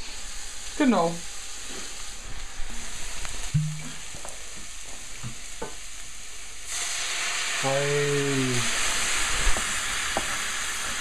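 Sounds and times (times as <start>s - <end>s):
mushrooms and onions sizzling: 0.0s - 11.0s.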